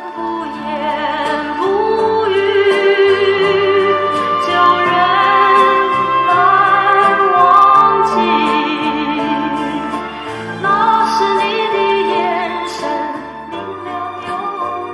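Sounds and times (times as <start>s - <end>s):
instrumental accompaniment with bass: 0.0s - 14.9s
person singing with vibrato: 0.0s - 14.9s.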